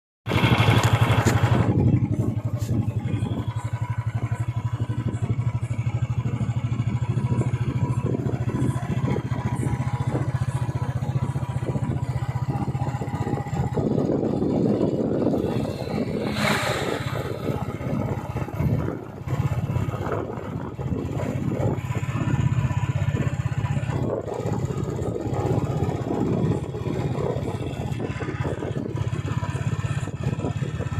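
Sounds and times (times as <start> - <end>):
motorcycle engine running: 0.3 - 30.9.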